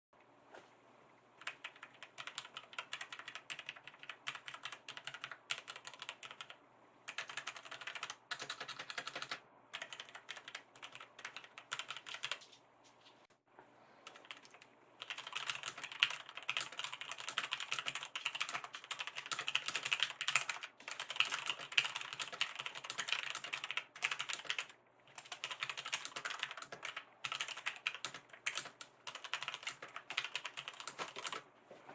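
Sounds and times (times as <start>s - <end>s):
mechanical keyboard typing: 1.4s - 12.6s, 14.0s - 31.4s.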